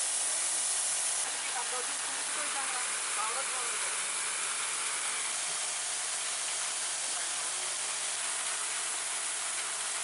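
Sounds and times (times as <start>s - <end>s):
water spraying hiss: 0.0s - 10.0s.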